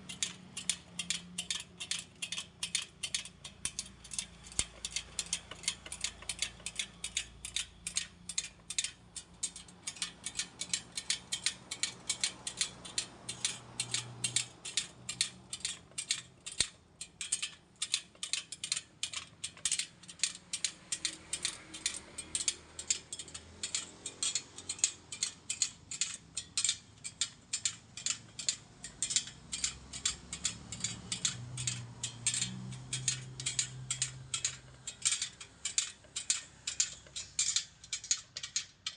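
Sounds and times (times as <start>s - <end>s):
rapid mechanical clicking: 0.0s - 38.9s.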